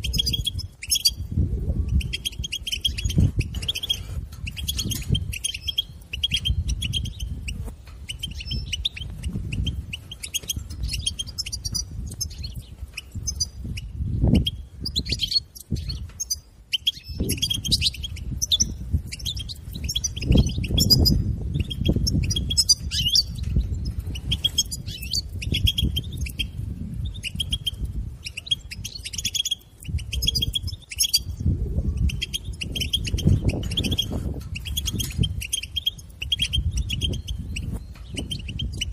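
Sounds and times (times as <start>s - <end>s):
finch clicking chatter: 1.9s - 38.9s.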